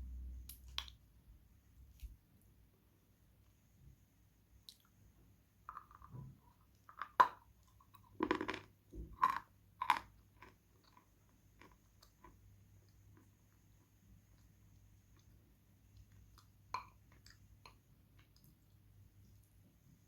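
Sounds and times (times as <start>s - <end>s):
soft chewing: 1.8s - 2.6s, 4.6s - 20.0s.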